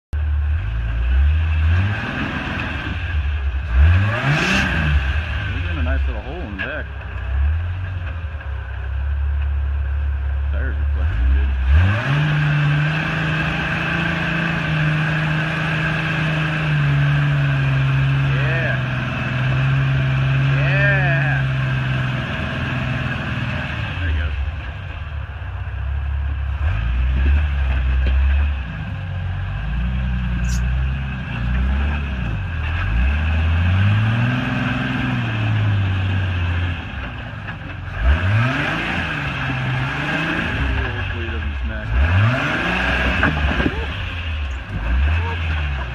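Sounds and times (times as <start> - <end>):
engine at raised revs: 0.2 - 45.9.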